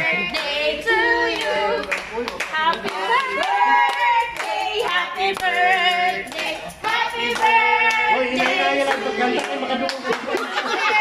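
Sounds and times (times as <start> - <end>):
group singing: 0.0 - 11.0
people clapping: 0.0 - 11.0.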